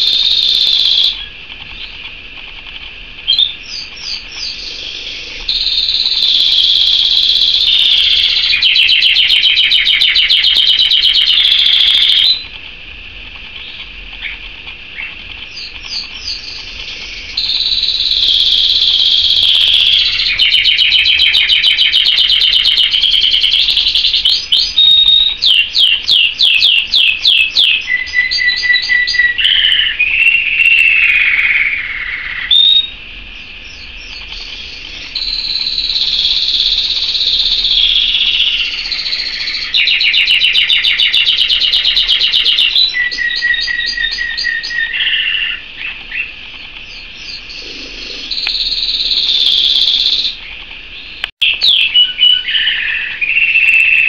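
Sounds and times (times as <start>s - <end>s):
canary singing trills: 0.0s - 12.7s, 13.4s - 54.0s.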